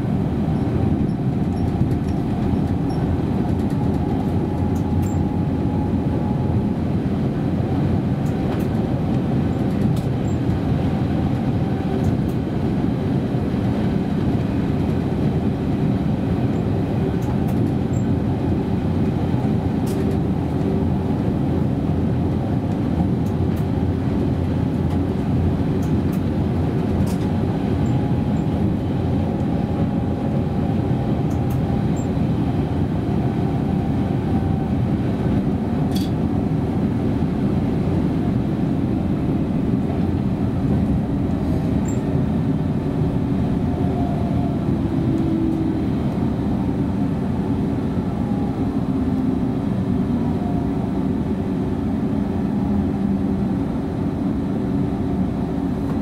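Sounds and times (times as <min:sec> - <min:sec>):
train rolling rumble: 0:00.0 - 0:56.0.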